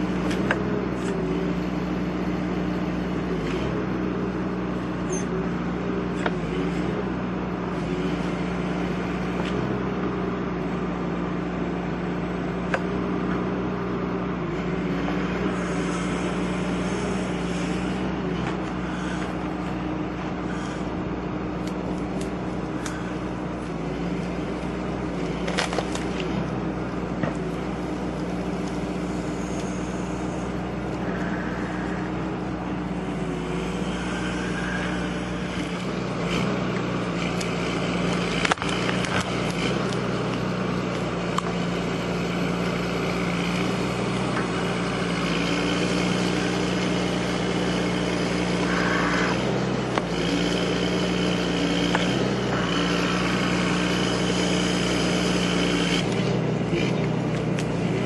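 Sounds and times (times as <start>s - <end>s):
machine engine running: 0.0s - 58.0s.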